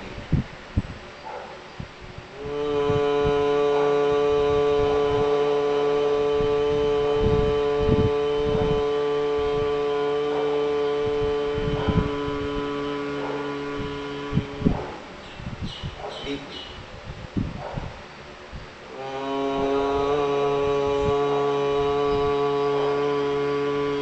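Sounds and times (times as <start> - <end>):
man humming chant: 0.0 - 0.4, 2.2 - 16.9, 18.8 - 24.0.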